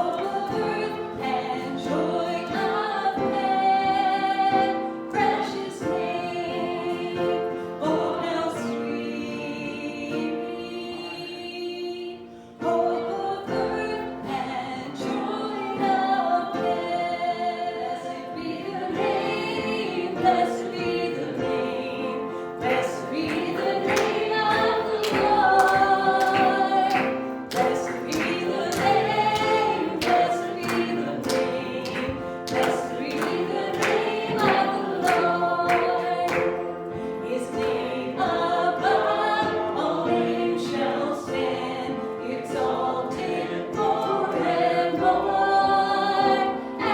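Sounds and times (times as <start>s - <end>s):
group singing a hymn: 0.0s - 46.9s.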